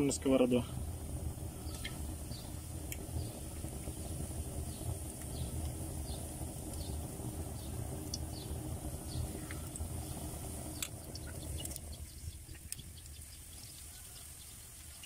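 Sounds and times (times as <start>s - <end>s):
steady low rumble: 0.0s - 14.9s
faint sizzling in oil: 0.0s - 15.0s.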